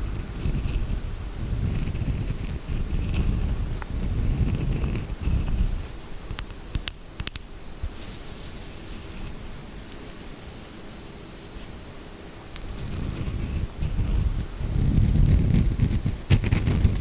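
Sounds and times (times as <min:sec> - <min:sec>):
light scratching and rustling: 0:00.0 - 0:06.5, 0:07.2 - 0:11.9, 0:12.5 - 0:17.0.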